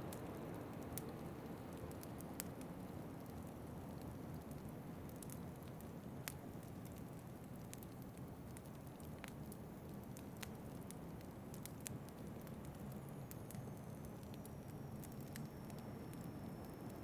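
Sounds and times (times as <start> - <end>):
fireplace crackling and popping: 0.0 - 17.0
low rumble of wind: 0.0 - 17.0.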